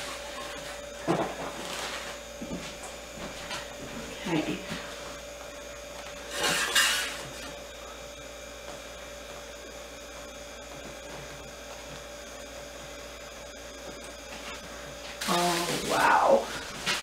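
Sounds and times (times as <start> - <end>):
electrical tones: 0.0 - 17.0
low room hum: 0.0 - 17.0.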